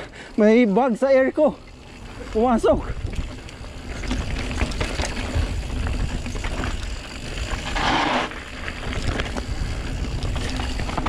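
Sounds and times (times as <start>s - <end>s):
bike tyres rumbling on gravel: 0.0s - 11.0s
gravel and bike rattles: 0.0s - 11.0s.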